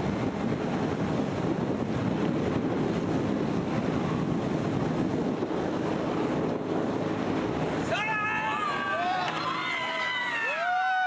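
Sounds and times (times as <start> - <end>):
speedboat engine and water rushing: 0.0 - 11.0
wind buffeting microphone: 0.0 - 11.0.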